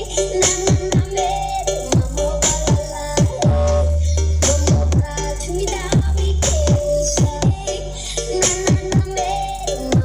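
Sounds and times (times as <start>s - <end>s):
electronic dance music with deep bass: 0.0s - 10.0s.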